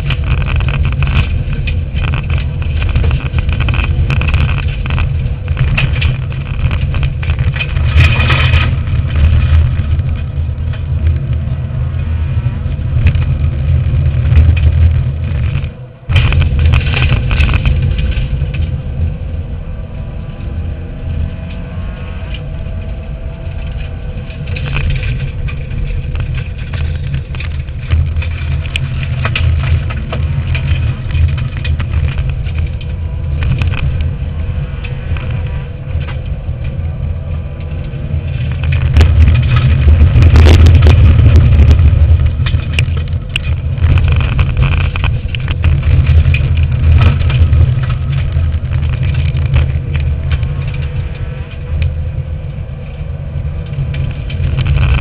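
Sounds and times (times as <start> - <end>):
sharp knocks and rattles: 0.0 - 19.1, 21.4 - 52.0, 53.7 - 55.0
rally car engine running hard: 0.0 - 55.0
tyre and road rumble: 0.0 - 55.0.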